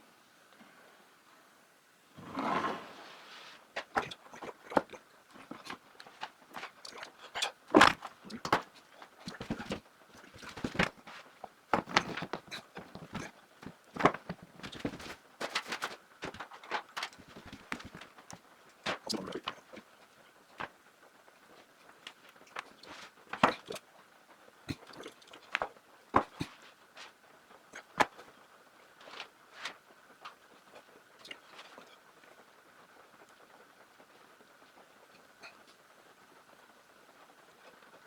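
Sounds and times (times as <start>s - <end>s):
soft rustle: 2.2s - 35.9s.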